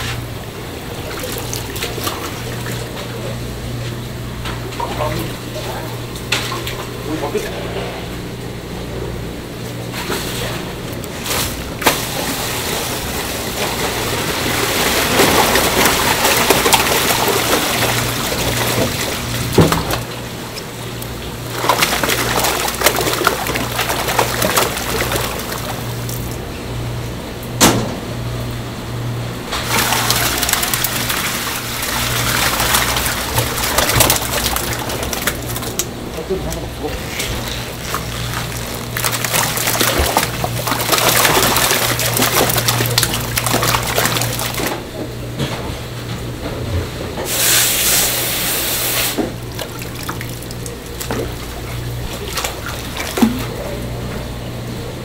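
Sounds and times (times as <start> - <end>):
water splashing and sloshing: 0.0 - 28.3, 29.2 - 55.0
steady low hum: 0.0 - 55.0.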